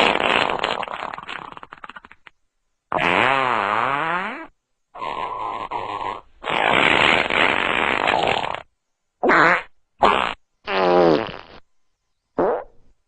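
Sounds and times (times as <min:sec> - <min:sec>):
farts: 0:00.0 - 0:02.3, 0:02.9 - 0:11.6, 0:12.4 - 0:12.8.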